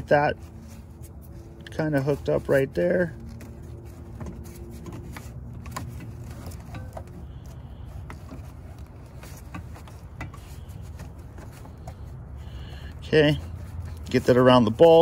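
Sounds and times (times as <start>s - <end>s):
rubber and plastic clicking and rubbing: 0.0s - 12.4s.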